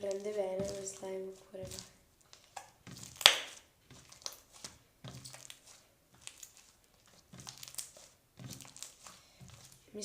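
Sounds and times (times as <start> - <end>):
slime squishing and crackling: 0.0 - 10.0.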